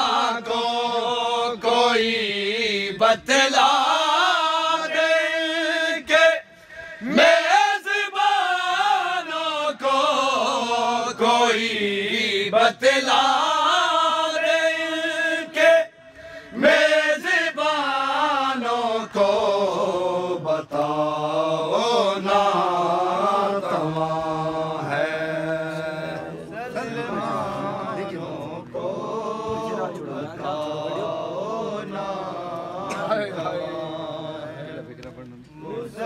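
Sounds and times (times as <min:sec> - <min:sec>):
men chanting a lament: 0:00.0 - 0:36.0.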